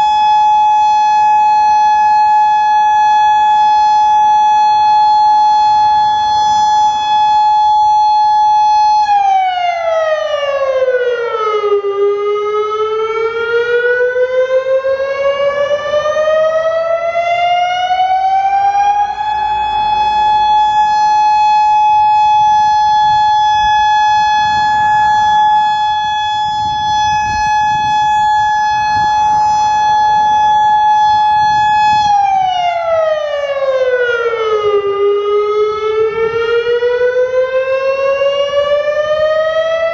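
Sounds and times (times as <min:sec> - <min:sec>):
electronic warning siren: 0:00.0 - 0:39.9.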